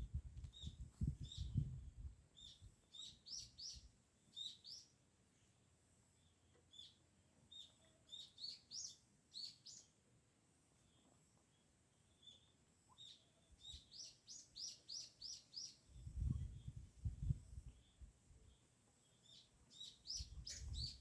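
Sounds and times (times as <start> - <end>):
small birds chirping: 0.1 - 10.1, 10.7 - 21.0.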